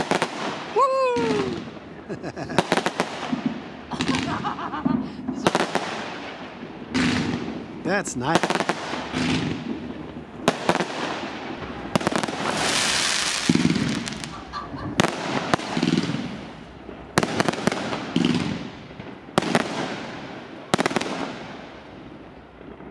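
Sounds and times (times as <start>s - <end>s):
fireworks bangs: 0.0s - 22.9s
fireworks hissing and crackling: 0.0s - 22.9s.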